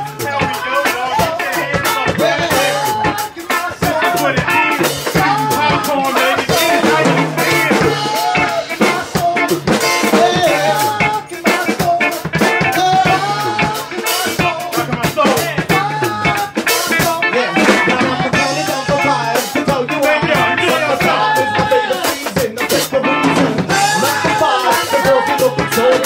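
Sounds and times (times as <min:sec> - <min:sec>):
repeating bass line: 0:00.0 - 0:26.0.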